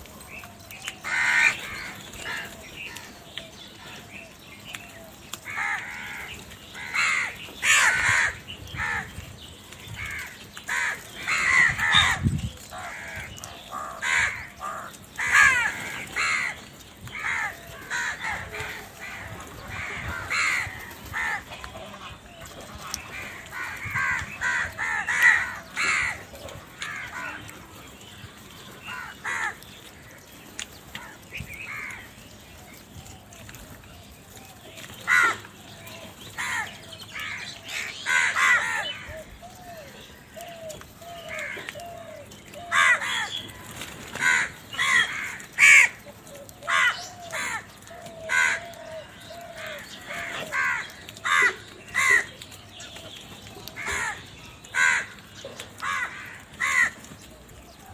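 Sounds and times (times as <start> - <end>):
crows cawing: 1.0 - 3.2, 5.4 - 9.2, 9.9 - 27.8, 28.8 - 30.4, 31.0 - 32.1, 35.0 - 52.5, 53.6 - 57.8.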